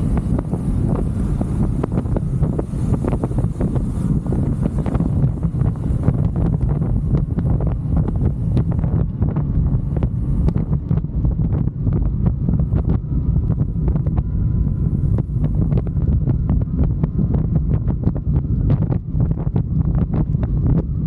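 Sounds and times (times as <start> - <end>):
faint steady whine: 0.0 - 21.0
wind rushing over microphone: 0.0 - 21.0.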